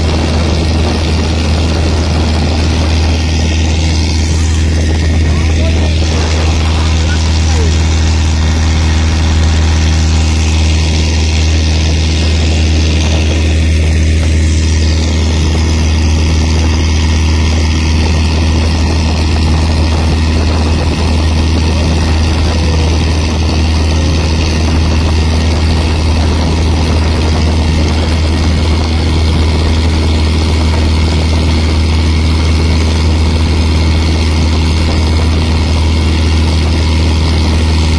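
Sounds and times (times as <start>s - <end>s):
boat engine drone: 0.0s - 37.9s
water rushing past hull: 0.0s - 37.9s.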